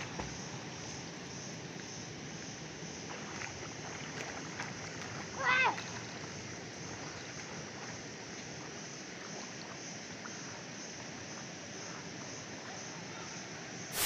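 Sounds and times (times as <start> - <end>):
lake water washing: 0.0 - 14.0
light wind: 0.0 - 14.0.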